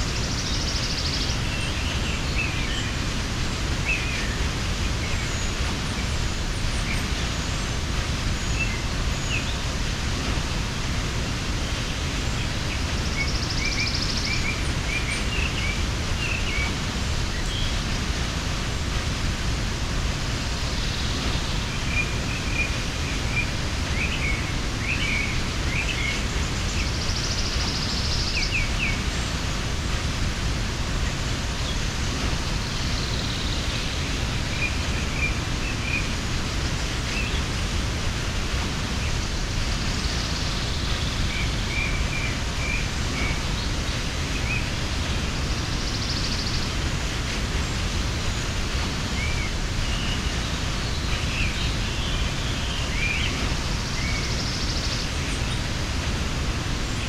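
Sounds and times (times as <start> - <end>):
small birds chirping: 0.0 - 57.0
waterfall rushing: 0.0 - 57.0.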